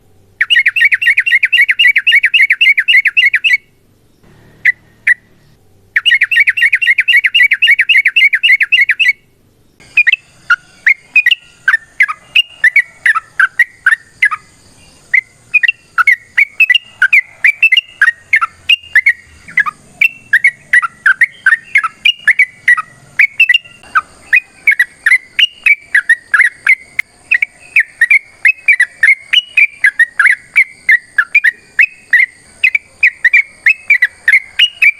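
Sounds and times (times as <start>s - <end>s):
bulbul singing: 0.0s - 34.9s.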